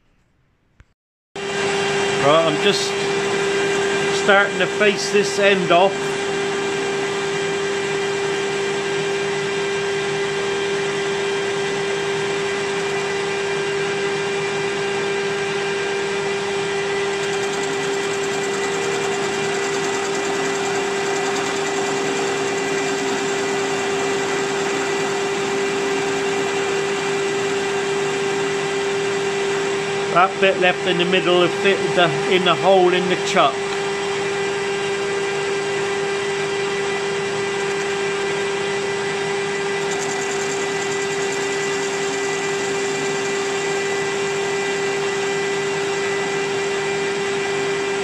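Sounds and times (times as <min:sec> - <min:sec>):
lathe running with steady tone: 0:01.4 - 0:48.0.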